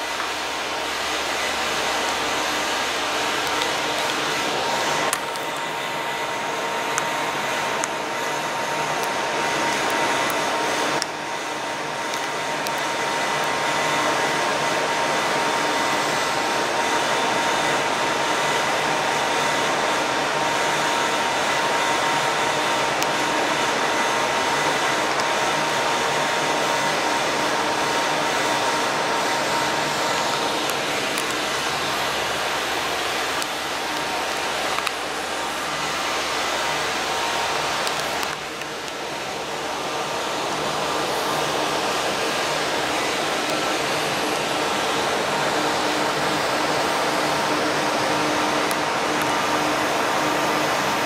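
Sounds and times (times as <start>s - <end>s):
machine whirring hiss: 0.0s - 51.0s
thin steady whine: 0.0s - 51.0s.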